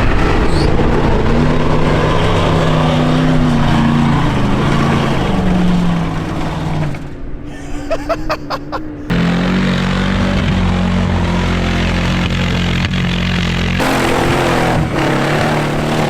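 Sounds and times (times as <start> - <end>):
off-road vehicle engine under load: 0.0 - 8.1, 9.0 - 16.0.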